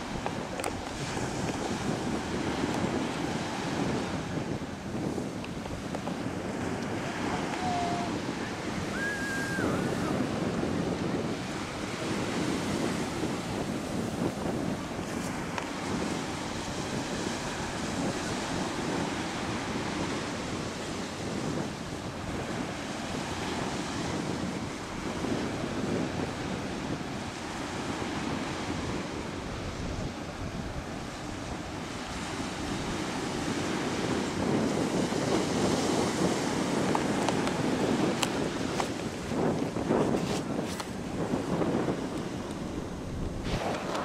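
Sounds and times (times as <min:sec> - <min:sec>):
small waves breaking on shore: 0:00.0 - 0:44.0
wind noise on microphone: 0:00.0 - 0:44.0.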